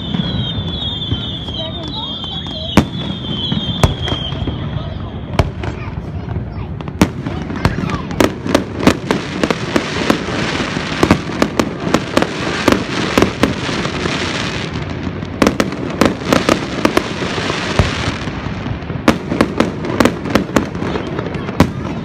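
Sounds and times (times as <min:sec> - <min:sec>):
firework crackle: 0:00.0 - 0:22.0.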